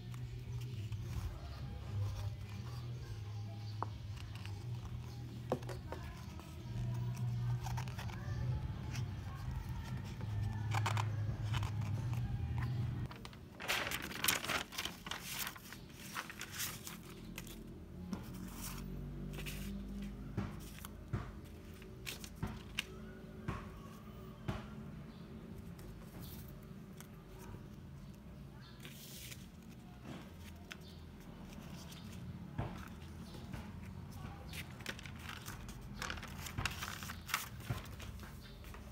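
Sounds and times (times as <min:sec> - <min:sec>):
paper rustling and crinkling: 0:00.0 - 0:23.1, 0:28.8 - 0:33.6, 0:34.2 - 0:38.9.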